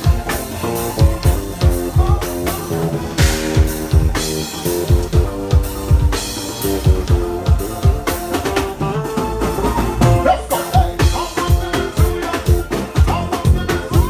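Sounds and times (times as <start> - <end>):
live soca band: 0.0 - 14.0.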